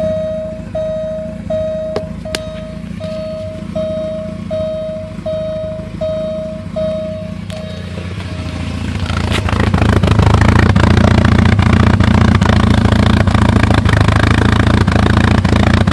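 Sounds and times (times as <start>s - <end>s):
car engine idling roughly: 0.0s - 15.9s.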